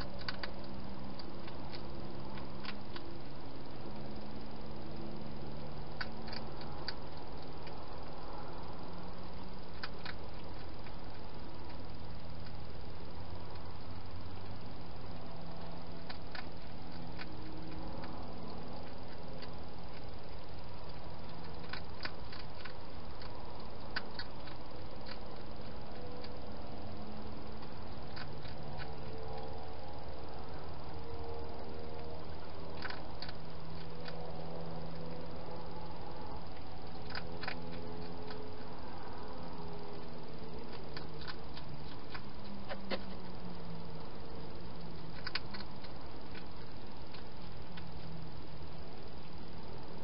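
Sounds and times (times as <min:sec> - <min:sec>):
background hiss: 0:00.0 - 0:50.0
hedgehog chewing: 0:00.0 - 0:50.0.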